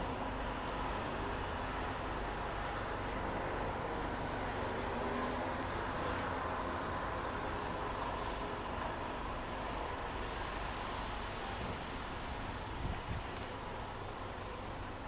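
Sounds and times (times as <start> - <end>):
low traffic hum: 0.0 - 15.0.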